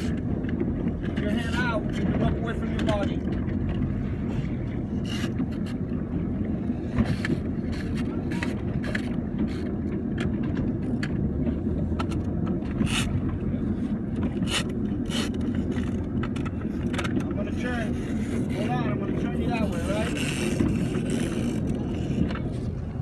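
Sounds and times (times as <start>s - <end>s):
motorboat engine rumbling: 0.0s - 23.0s.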